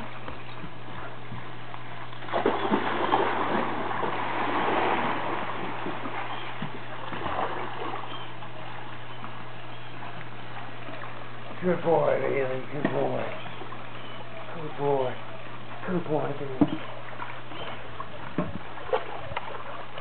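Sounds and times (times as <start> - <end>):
pool water splashing: 0.0 - 20.0
puppy paddling in water: 0.0 - 20.0.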